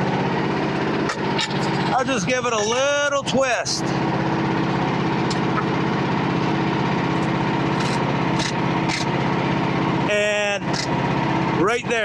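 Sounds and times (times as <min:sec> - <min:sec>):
small gasoline engine idling: 0:00.0 - 0:12.0.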